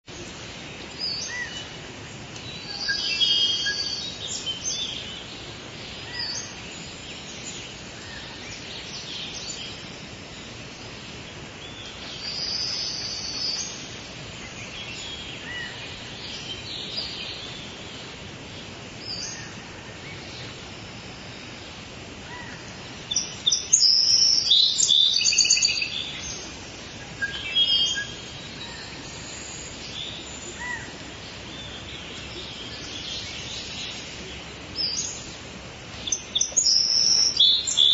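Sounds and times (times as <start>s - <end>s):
steady background hiss: 0.1s - 37.9s
birds chirping and calling: 0.2s - 37.9s.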